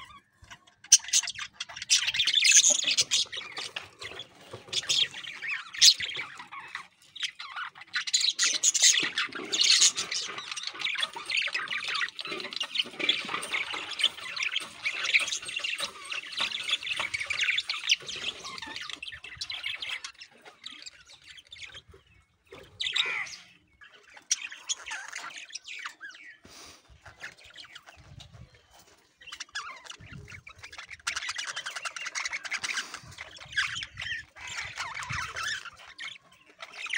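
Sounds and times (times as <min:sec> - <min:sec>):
budgerigars chattering: 0:00.0 - 0:36.9.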